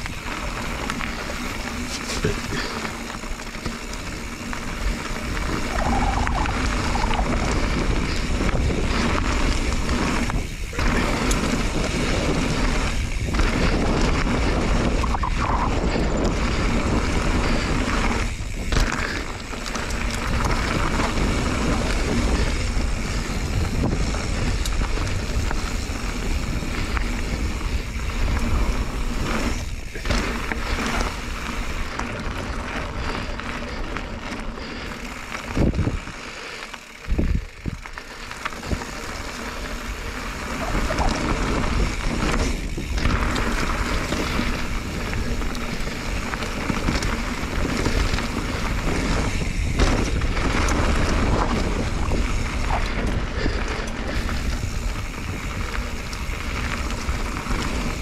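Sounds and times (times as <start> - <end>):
tyre noise on gravel trail: 0.0 - 58.0
wind rushing over microphone: 3.9 - 58.0.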